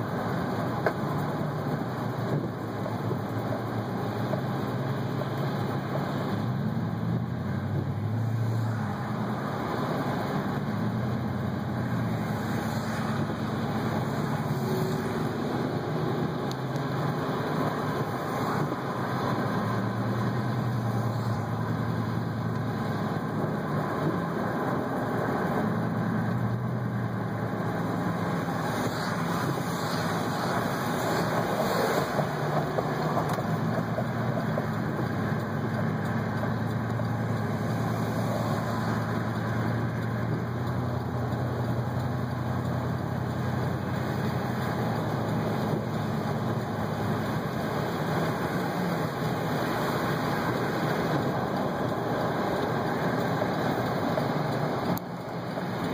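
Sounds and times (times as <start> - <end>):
low engine hum: 0.0 - 55.9
tyre noise on wet pavement: 0.0 - 55.9.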